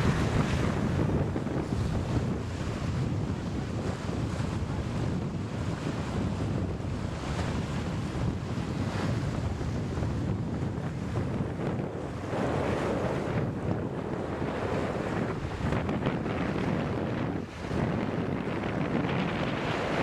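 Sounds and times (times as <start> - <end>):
water rushing along hull: 0.0 - 20.0
wind noise on microphone: 0.0 - 20.0.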